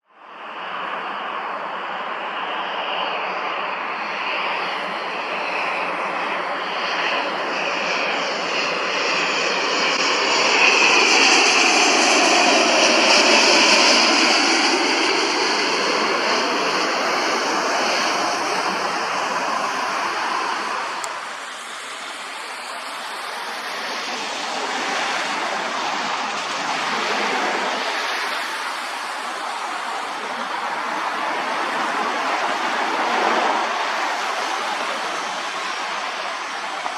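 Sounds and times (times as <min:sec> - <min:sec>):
jet passing by whining: 0:00.3 - 0:36.9.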